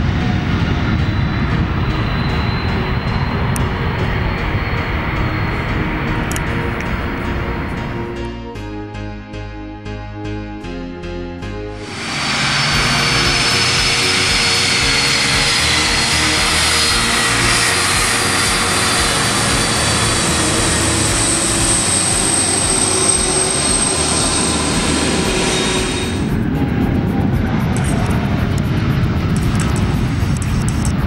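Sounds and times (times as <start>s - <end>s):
jet engines roaring: 0.0s - 8.3s, 11.6s - 31.0s
high engine whine: 0.0s - 8.7s, 11.4s - 31.0s.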